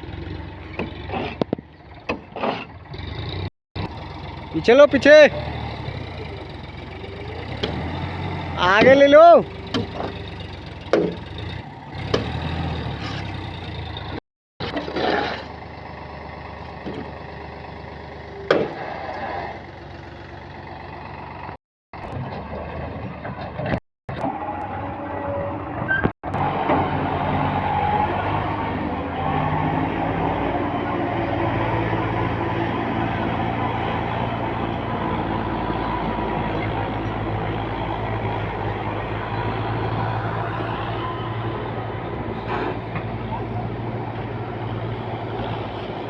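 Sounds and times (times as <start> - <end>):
diesel tractor engines running: 0.0 - 46.0.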